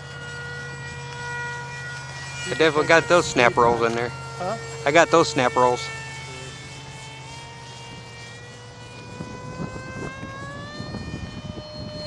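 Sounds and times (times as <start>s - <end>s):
electric motor and propeller whining: 0.0s - 12.0s.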